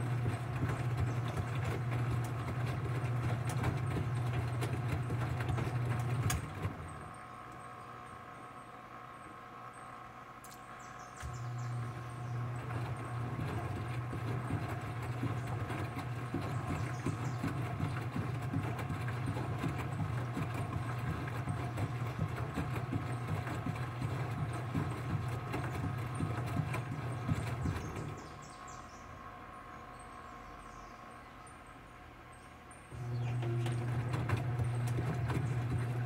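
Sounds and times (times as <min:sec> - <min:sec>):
water sloshing in washing machine: 0:00.0 - 0:09.2, 0:10.6 - 0:30.2, 0:32.6 - 0:36.0
washing machine motor whine: 0:00.0 - 0:36.0.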